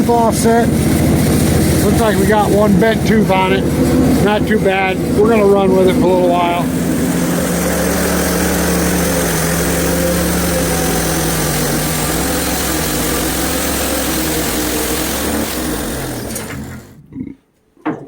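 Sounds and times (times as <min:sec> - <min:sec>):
bandsaw mill engine running: 0:00.0 - 0:17.0
band blade cutting log: 0:00.7 - 0:17.0.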